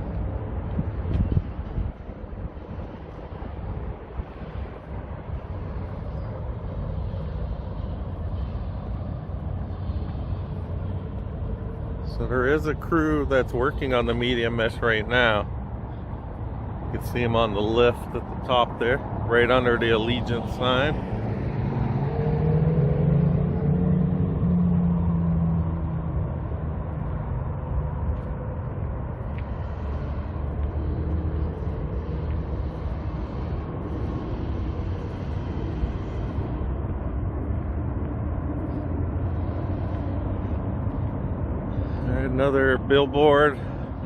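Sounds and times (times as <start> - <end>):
road traffic rumble: 0.0 - 44.0
vehicle engine: 0.0 - 44.0.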